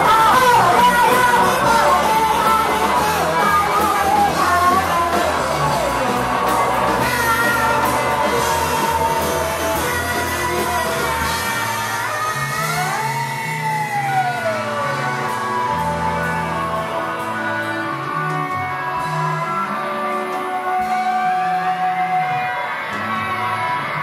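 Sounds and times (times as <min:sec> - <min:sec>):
drums: 0:00.0 - 0:24.0
electric guitar: 0:00.0 - 0:24.0
keyboard: 0:00.0 - 0:24.0
wavering lead melody: 0:00.0 - 0:24.0.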